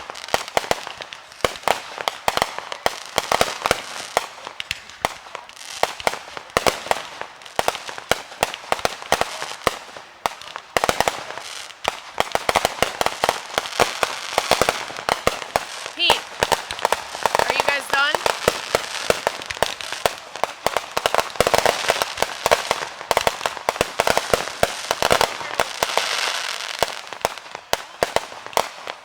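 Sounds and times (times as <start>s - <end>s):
fireworks cracking and popping: 0.0s - 29.0s.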